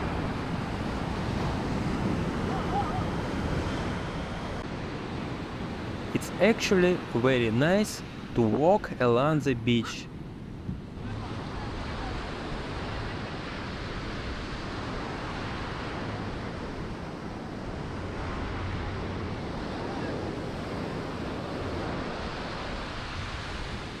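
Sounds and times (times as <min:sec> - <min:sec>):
wind rumbling on microphone: 0:00.0 - 0:06.2, 0:10.1 - 0:24.0
ocean surf washing onto beach: 0:00.0 - 0:24.0.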